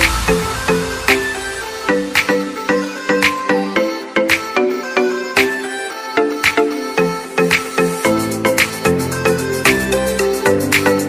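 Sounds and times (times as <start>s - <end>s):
background music with plucked notes: 0.0s - 11.0s.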